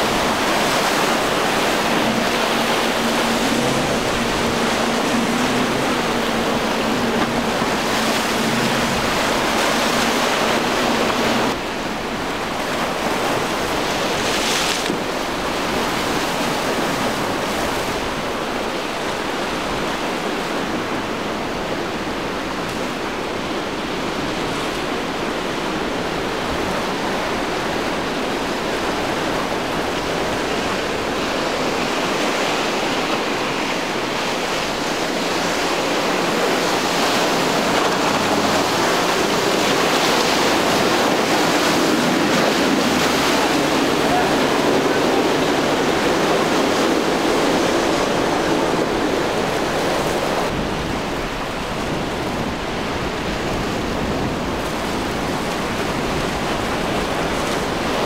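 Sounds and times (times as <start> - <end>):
surf rushing: 0.0 - 58.0
wind buffeting microphone: 0.0 - 58.0.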